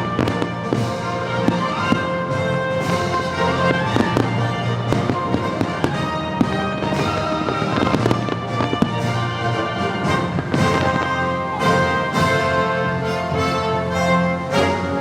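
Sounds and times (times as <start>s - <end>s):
fireworks bangs: 0.0s - 15.0s
orchestral music: 0.0s - 15.0s.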